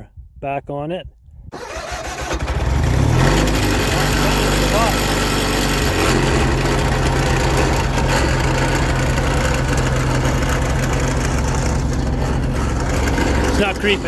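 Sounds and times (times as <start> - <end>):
garden tractor engine running: 1.6 - 14.0.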